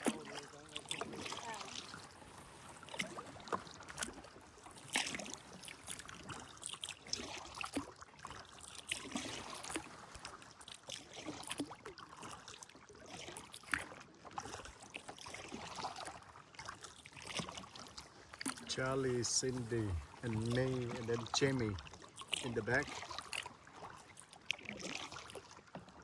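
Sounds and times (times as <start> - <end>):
paddle swishing in water: 0.0 - 26.0.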